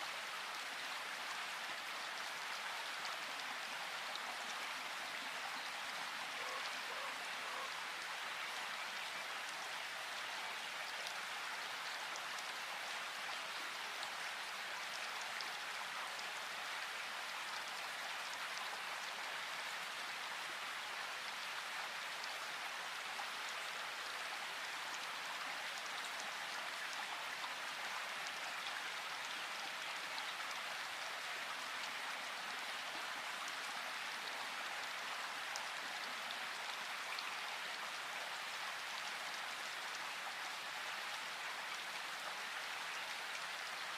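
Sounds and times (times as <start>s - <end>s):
rain hissing in forest: 0.0s - 43.9s.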